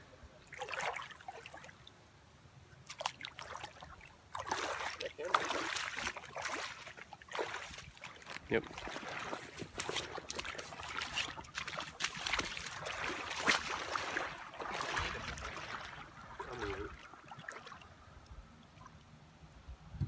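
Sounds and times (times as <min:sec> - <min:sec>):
water splashing around legs: 0:00.5 - 0:01.8, 0:02.8 - 0:17.9.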